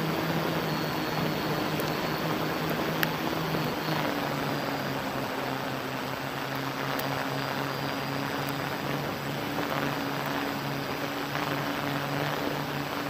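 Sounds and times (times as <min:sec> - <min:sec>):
constant hiss: 0:00.0 - 0:13.0
drone propellers humming: 0:00.0 - 0:13.0.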